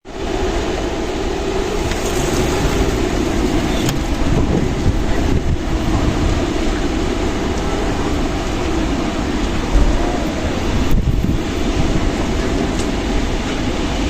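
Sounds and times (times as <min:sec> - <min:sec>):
strong wind blowing: 0:00.0 - 0:14.0.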